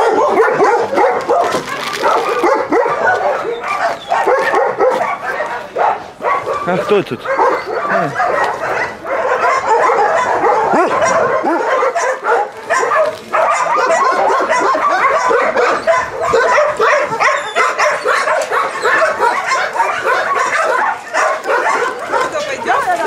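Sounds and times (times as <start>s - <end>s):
dogs barking and yapping: 0.0s - 23.0s.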